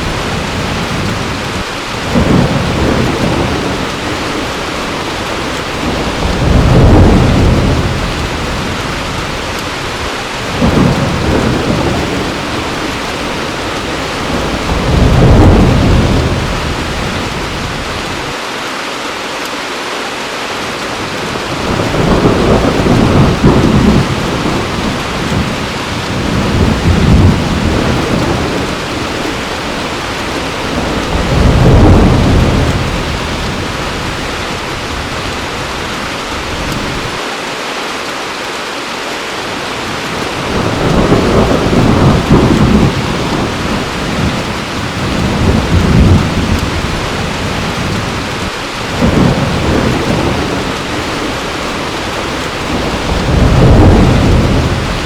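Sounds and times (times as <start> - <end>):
thunder rolling: 0.0 - 18.3, 21.0 - 37.2, 39.8 - 55.0
heavy rain falling: 0.0 - 55.0.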